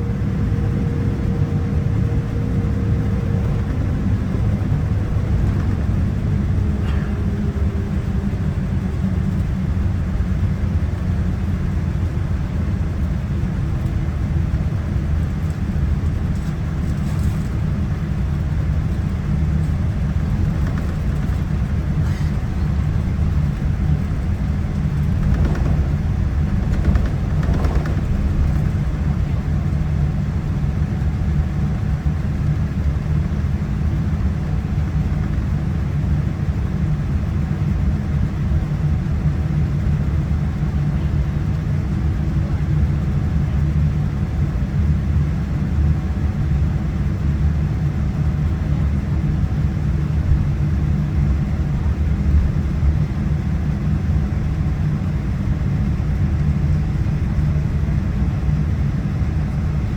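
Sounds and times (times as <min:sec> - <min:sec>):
airplane cabin rumble and hum: 0:00.0 - 0:59.9.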